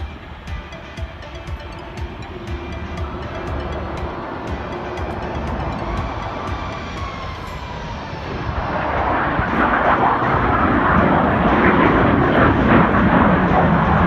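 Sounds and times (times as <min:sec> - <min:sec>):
jet aircraft engine rushing: 0:00.0 - 0:14.0.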